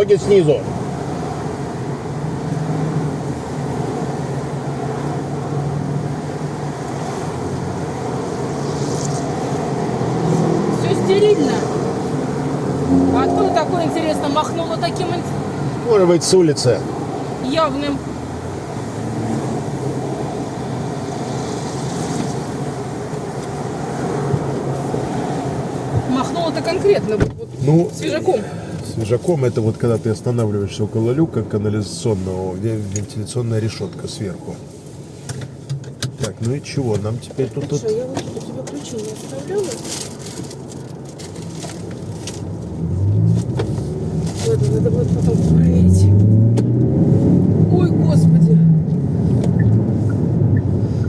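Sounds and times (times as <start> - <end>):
car engine and cabin hum: 0.0 - 51.0.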